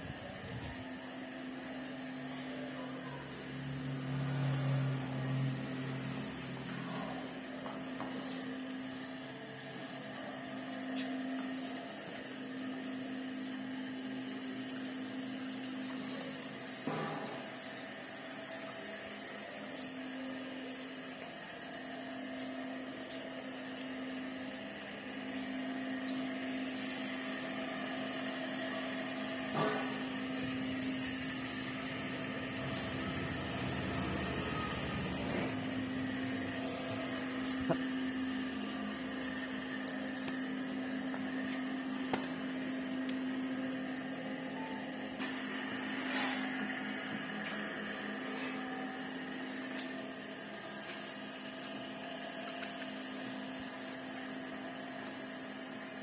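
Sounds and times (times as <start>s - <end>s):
electric motor hum: 0.0s - 56.0s.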